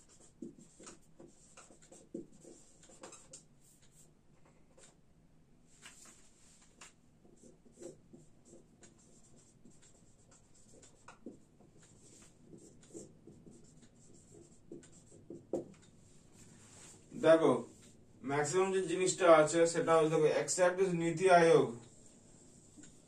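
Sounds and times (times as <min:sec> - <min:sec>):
marker writing on whiteboard: 0:00.0 - 0:05.0, 0:05.8 - 0:23.0.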